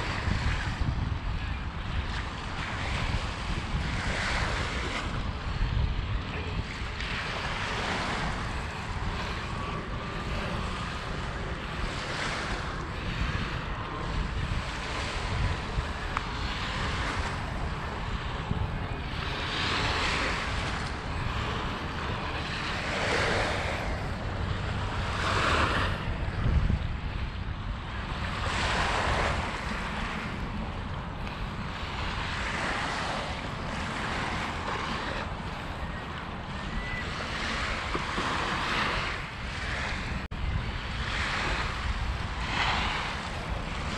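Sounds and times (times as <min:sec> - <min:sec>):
waves washing onto beach: 0:00.0 - 0:43.9
wind rumble on microphone: 0:00.0 - 0:43.9.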